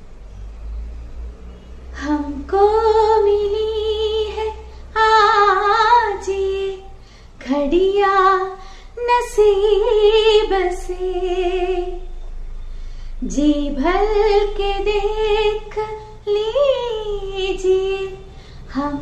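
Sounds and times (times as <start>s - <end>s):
woman singing unaccompanied: 2.0s - 12.2s, 13.2s - 19.0s.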